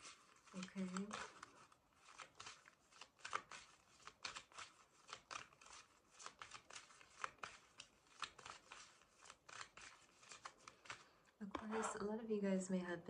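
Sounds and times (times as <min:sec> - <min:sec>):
cards being shuffled: 0:00.0 - 0:12.1.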